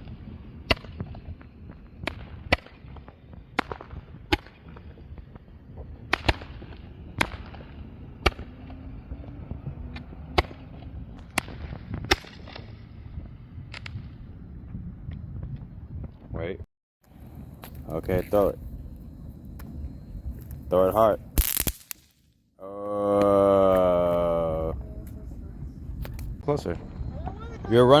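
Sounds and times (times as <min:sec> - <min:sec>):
small fireworks popping: 0:00.0 - 0:16.3, 0:17.0 - 0:22.4, 0:23.1 - 0:27.7.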